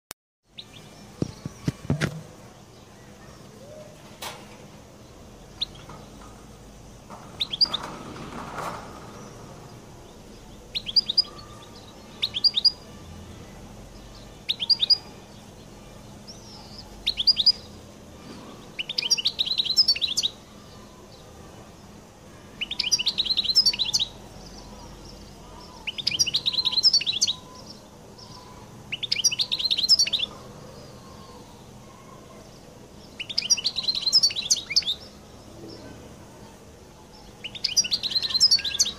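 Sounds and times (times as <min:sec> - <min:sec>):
bird chirping: 0:00.5 - 0:04.1, 0:04.8 - 0:22.0, 0:22.6 - 0:38.9
bird twittering song: 0:00.5 - 0:04.1, 0:04.8 - 0:38.9.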